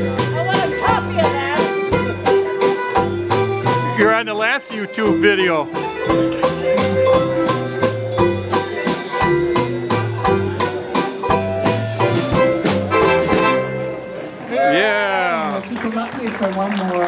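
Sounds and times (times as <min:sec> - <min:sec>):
steady drum beat: 0:00.0 - 0:13.8
bass line: 0:00.0 - 0:14.1
dance band playing: 0:00.0 - 0:14.4.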